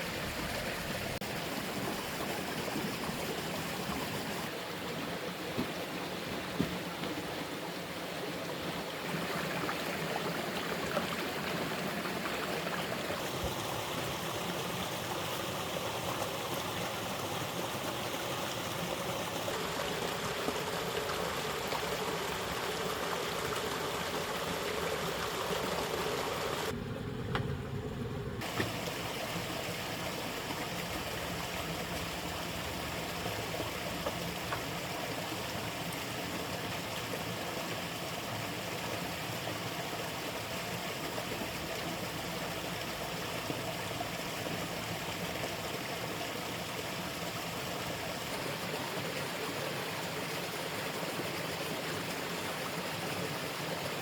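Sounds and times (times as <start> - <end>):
stream water flowing: 0.0 - 26.8, 28.4 - 54.0.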